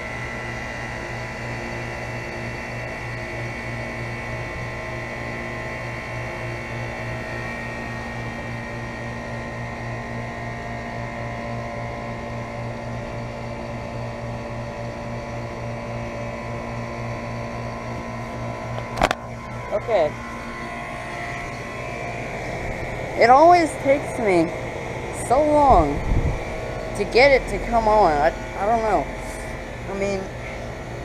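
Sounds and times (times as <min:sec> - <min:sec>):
air conditioner unit humming: 0:00.0 - 0:31.0.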